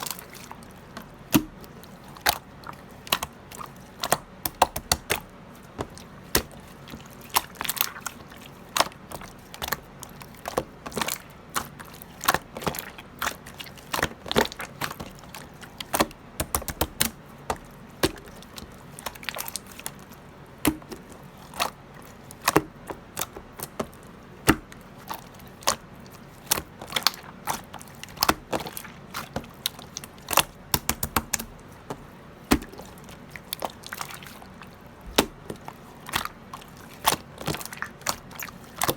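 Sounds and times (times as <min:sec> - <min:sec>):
faint steady background noise: 0:00.0 - 0:38.9.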